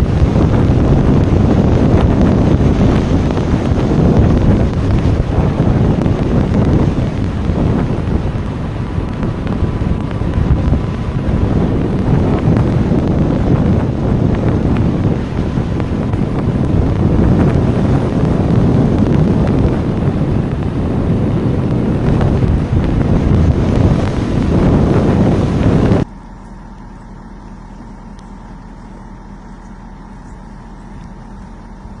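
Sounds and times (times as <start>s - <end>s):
quiet steady hum: 0.0s - 32.0s
vehicle rumble on highway: 0.0s - 32.0s
wind noise on microphone: 0.0s - 32.0s.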